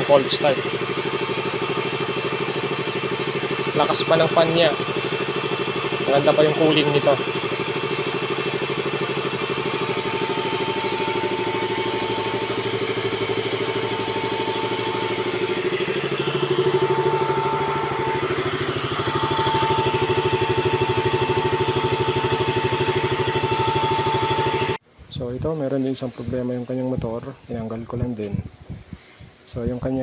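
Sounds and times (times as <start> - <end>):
motorcycle engine idling: 0.0 - 24.8
cooling fan whine: 0.0 - 30.0.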